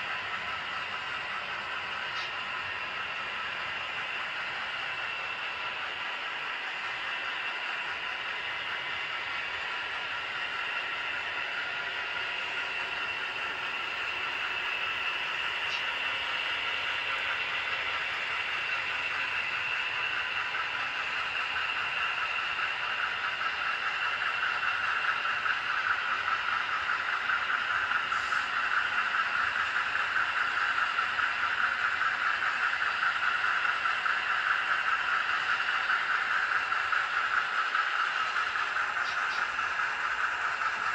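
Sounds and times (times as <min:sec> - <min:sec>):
model train wheels whirring on rails: 0:00.0 - 0:40.9.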